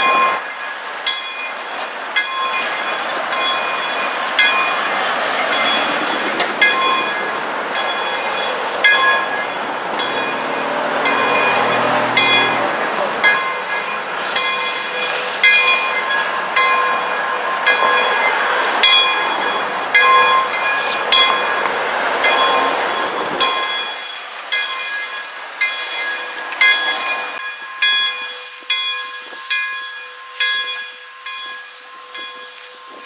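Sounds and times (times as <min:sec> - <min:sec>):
steam locomotive bell ringing: 0:00.0 - 0:33.0.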